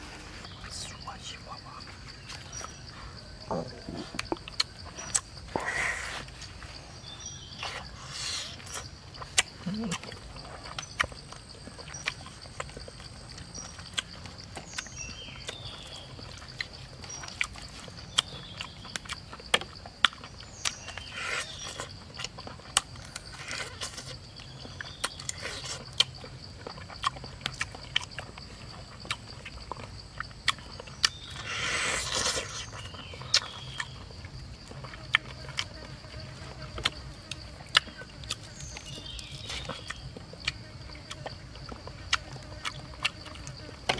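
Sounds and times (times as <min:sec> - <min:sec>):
chewing with wet clicks: 0:02.1 - 0:05.5, 0:07.2 - 0:43.9.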